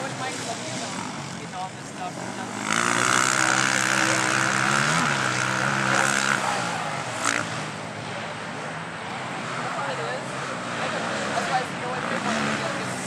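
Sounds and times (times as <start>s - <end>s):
quad engine passing by: 0.0s - 13.0s.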